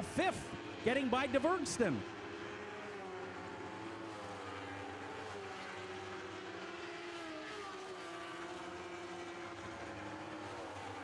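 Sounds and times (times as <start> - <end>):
small racing engines: 0.0 - 11.0.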